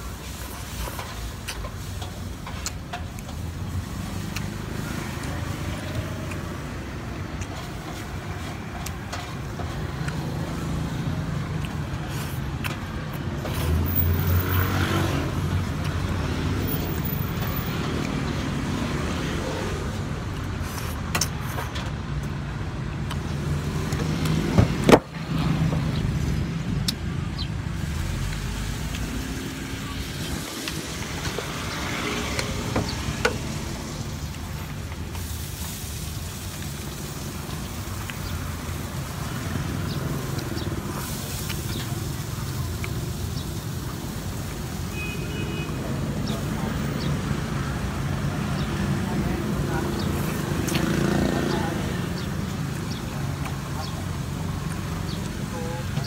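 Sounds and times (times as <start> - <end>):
vehicle engines rumbling: 0.0 - 56.0.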